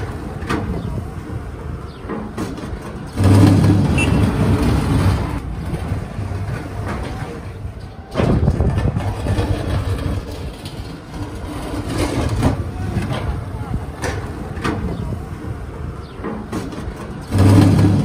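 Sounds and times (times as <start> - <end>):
heavy machinery diesel engines rumbling: 0.0 - 18.0.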